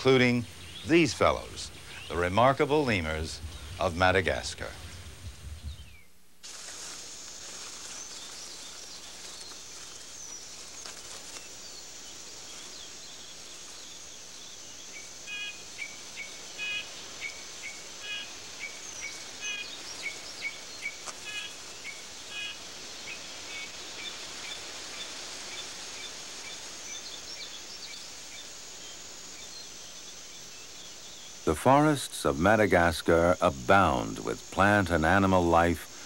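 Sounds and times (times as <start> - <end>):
high insect drone: 0.0 - 36.0.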